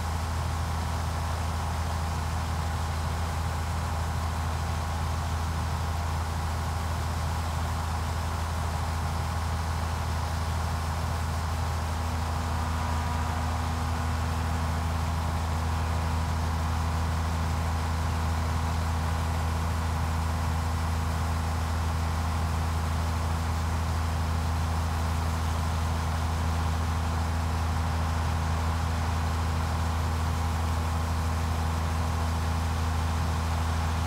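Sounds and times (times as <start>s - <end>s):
combine diesel engine drone: 0.0s - 34.0s
faint machinery whine: 0.0s - 34.0s.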